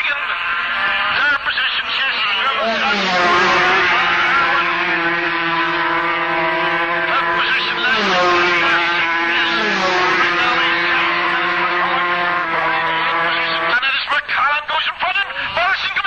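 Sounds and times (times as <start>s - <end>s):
motorcycle engines at high revs: 0.1s - 14.1s.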